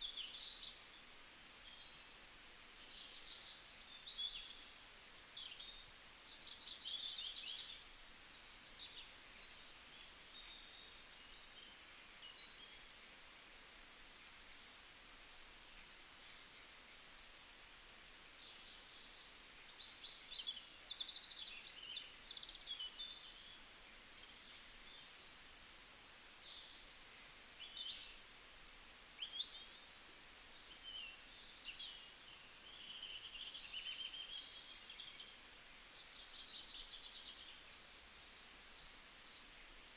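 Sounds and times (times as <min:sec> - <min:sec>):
soft background hiss: 0:00.0 - 0:39.9.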